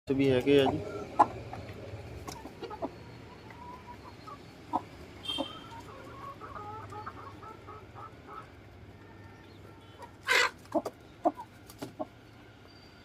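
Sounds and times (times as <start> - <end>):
chickens clucking: 0.2 - 12.6.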